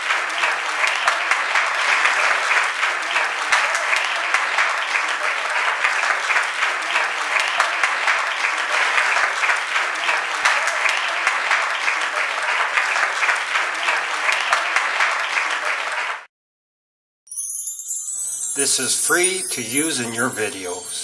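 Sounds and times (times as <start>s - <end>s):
audience applauding: 0.0s - 16.3s, 18.1s - 21.0s.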